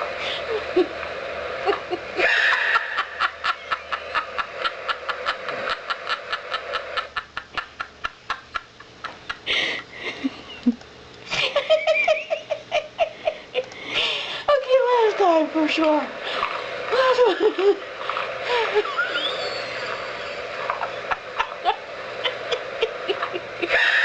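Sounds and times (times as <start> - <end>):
woman laughing: 0.3 - 1.0, 1.6 - 14.9, 16.9 - 24.0.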